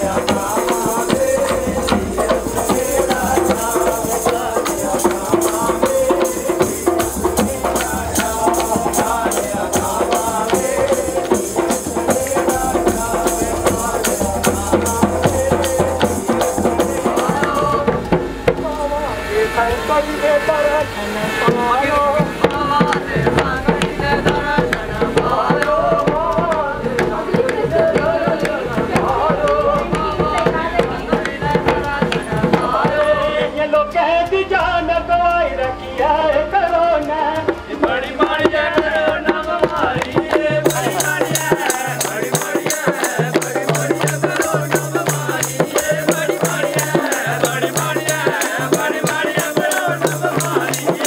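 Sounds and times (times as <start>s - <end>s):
dhol drum beating: 0.0s - 51.0s
man singing folk song: 0.0s - 51.0s.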